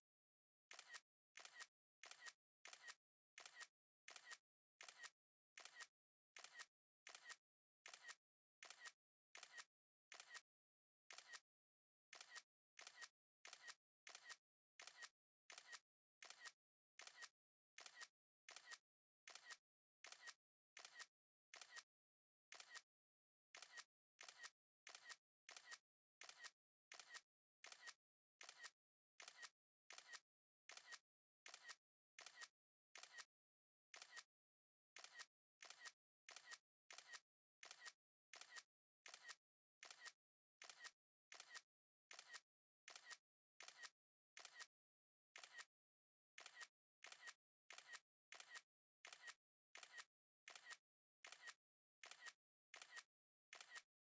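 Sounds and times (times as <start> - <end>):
camera shutter clicks: 0.7 - 10.4, 11.1 - 11.4, 12.1 - 21.8, 22.5 - 22.8, 23.6 - 33.2, 34.0 - 34.2, 35.0 - 44.7, 45.4 - 45.7, 46.4 - 53.8.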